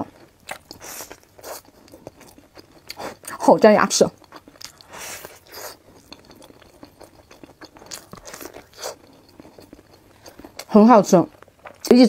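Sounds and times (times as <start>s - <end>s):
person chewing corn on the cob: 0.0s - 3.3s, 4.1s - 10.7s, 11.3s - 11.9s.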